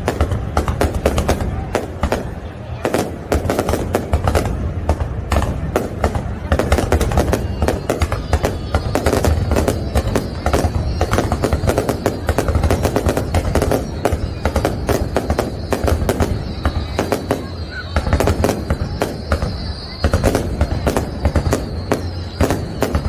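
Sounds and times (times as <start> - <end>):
firework bangs and crackles: 0.0 - 23.0.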